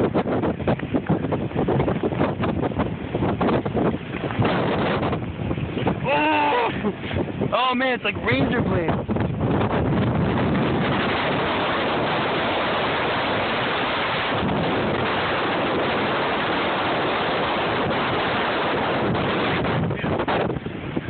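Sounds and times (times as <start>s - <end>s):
strong wind on microphone: 0.0s - 21.0s.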